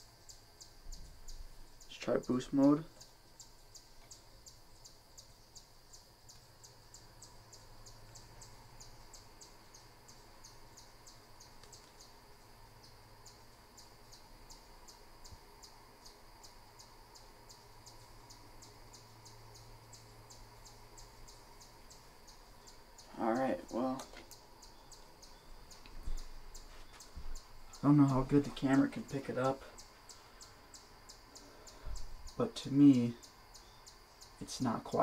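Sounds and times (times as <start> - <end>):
faint low hum: 0.0 - 35.0
insect chirping: 0.0 - 35.0.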